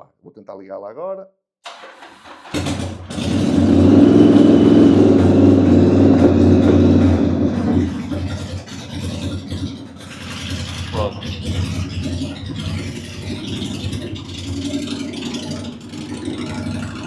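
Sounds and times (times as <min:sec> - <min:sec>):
motorcycle engine starting and running: 0:01.7 - 0:17.0.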